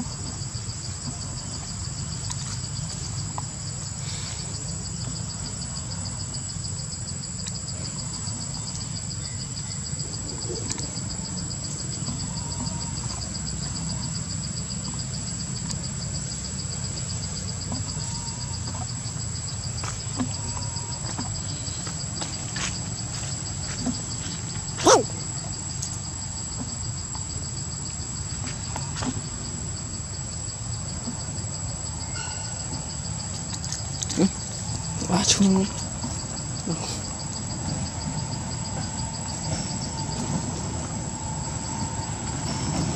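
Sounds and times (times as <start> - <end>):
insects chirring: 0.0 - 42.9.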